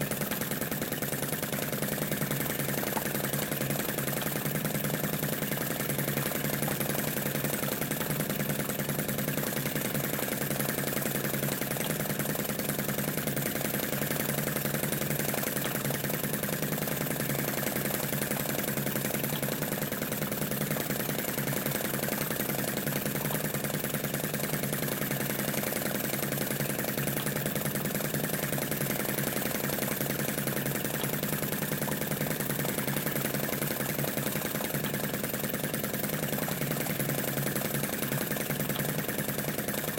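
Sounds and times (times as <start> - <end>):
small model engine running: 0.0 - 39.9.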